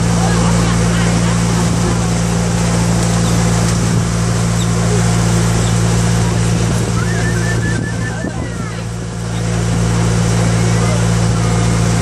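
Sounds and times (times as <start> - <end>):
boat engine droning: 0.0 - 12.0
water wash: 0.0 - 12.0.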